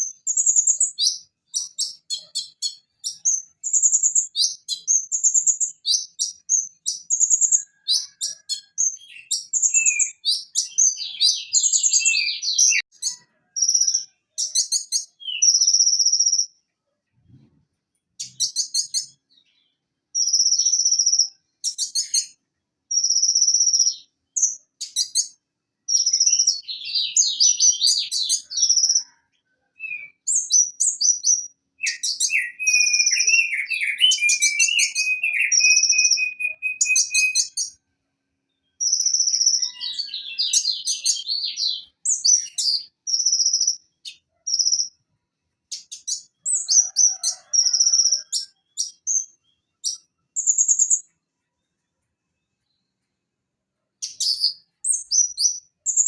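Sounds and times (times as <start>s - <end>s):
rapid bird trill: 0.0s - 16.6s, 20.1s - 29.2s, 29.8s - 37.8s, 38.7s - 45.0s, 45.7s - 51.1s
sunbird singing: 0.0s - 16.6s, 18.2s - 29.2s, 29.8s - 37.8s, 38.5s - 45.0s, 45.7s - 51.1s, 54.0s - 56.0s.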